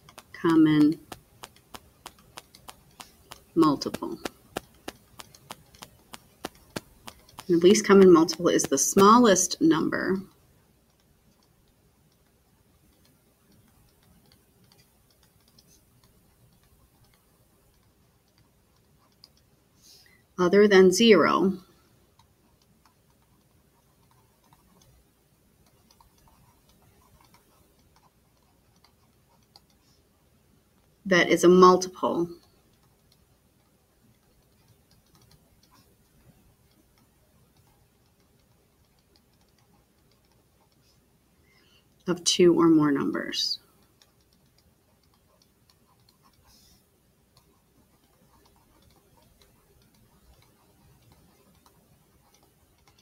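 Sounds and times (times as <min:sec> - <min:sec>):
stylus tapping on tablet screen: 0:00.0 - 0:53.0.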